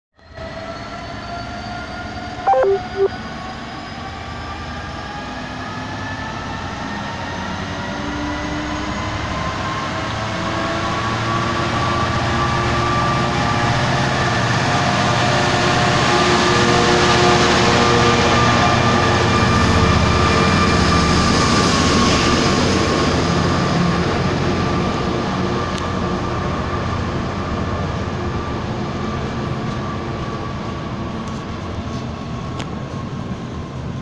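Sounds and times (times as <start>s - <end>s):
diesel locomotive engine: 4.7s - 34.0s.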